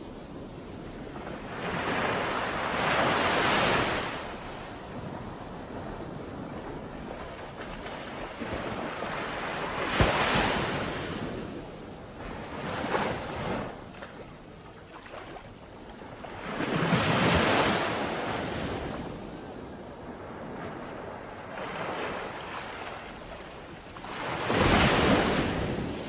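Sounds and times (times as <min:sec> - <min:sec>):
sea waves breaking on shore: 0:00.0 - 0:26.0.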